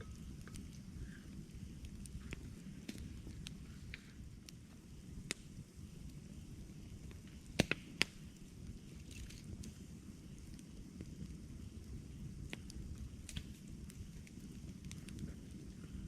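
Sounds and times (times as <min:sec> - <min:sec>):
campfire crackling: 0:00.0 - 0:16.0
sharp pops of burning wood: 0:00.0 - 0:16.0.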